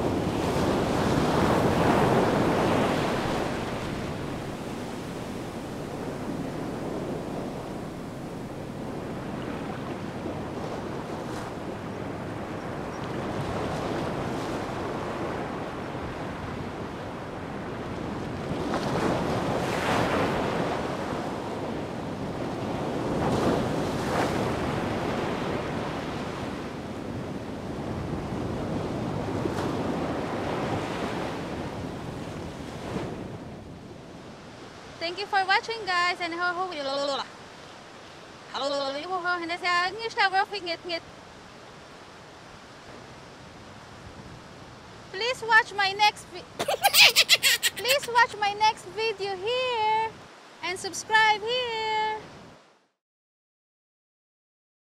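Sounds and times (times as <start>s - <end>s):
waves breaking and washing in: 0.0s - 53.0s.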